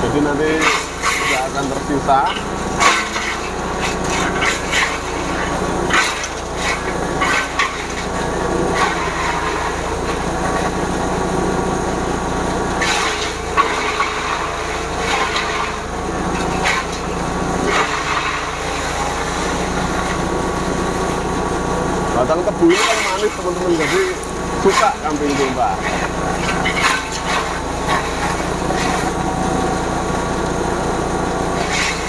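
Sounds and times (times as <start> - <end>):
chopper engine running: 0.0 - 32.0
cutter crunching stalks: 0.4 - 32.0.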